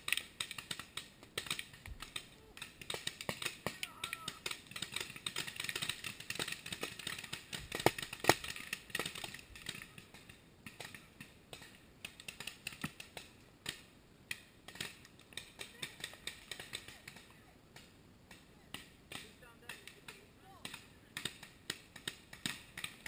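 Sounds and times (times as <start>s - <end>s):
paintball markers firing: 0.0s - 23.0s.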